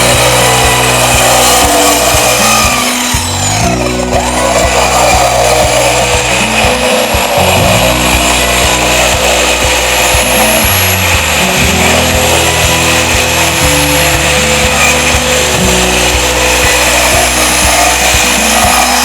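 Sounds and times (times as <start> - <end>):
background music with bass line: 0.0 - 19.0
circular saw cutting plywood: 0.0 - 19.0.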